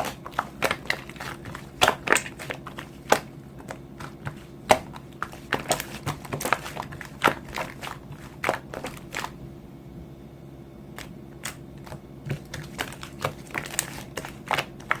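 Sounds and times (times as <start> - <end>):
crinkling and crackling clicks: 0.0 - 9.4, 10.9 - 15.0
faint steady hum: 0.0 - 15.0.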